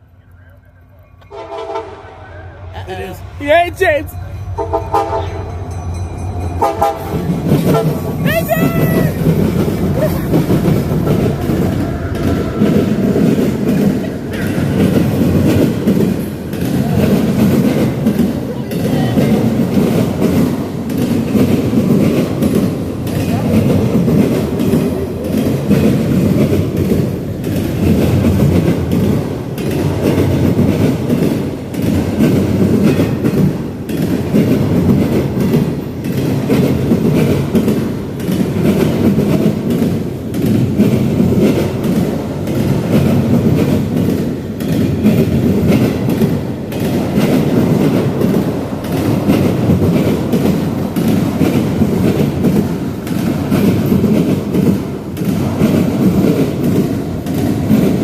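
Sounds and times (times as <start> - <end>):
freight train rolling past: 0.0 - 58.0
wheels clacking over rail joints: 3.0 - 58.0.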